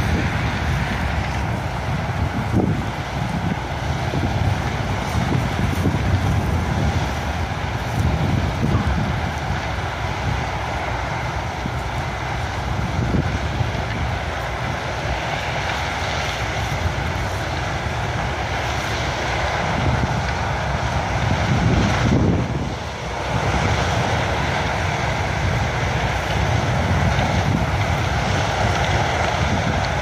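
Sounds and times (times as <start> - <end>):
combine harvester running: 0.0 - 30.0
tractor running: 0.0 - 30.0
wind buffeting microphone: 0.0 - 30.0.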